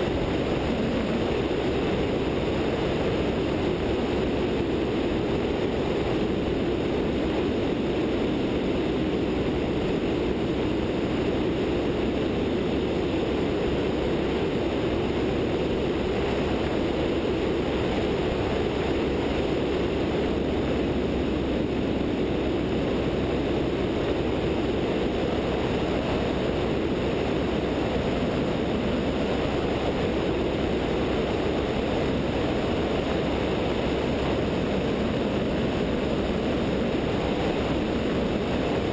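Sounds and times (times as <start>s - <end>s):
airflow rushing: 0.0s - 38.9s
airplane engine and propeller drone: 0.0s - 38.9s.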